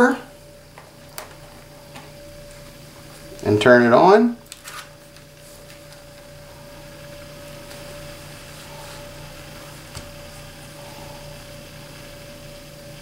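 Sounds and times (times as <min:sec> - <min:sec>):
laptop fan humming: 0:00.0 - 0:13.0.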